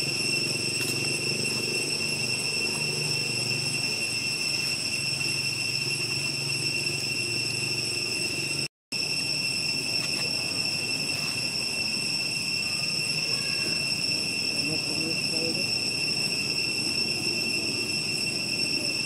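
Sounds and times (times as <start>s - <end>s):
shrill insect drone: 0.0s - 19.0s.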